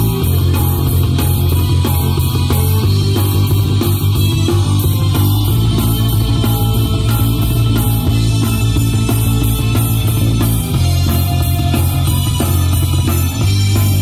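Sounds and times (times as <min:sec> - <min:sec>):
bass guitar: 0:00.0 - 0:14.0
drum kit: 0:00.0 - 0:14.0
electric guitar: 0:00.0 - 0:14.0
keyboard: 0:00.0 - 0:14.0.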